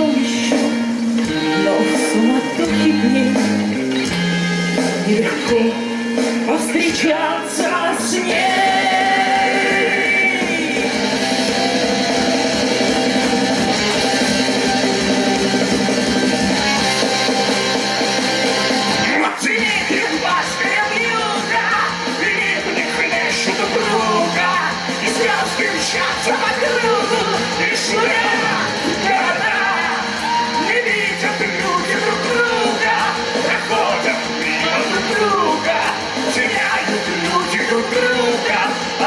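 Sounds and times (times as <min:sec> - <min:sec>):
people yelling and singing: 0:00.0 - 0:03.8, 0:05.0 - 0:15.3, 0:18.4 - 0:39.0
pop karaoke backing track: 0:00.0 - 0:39.0.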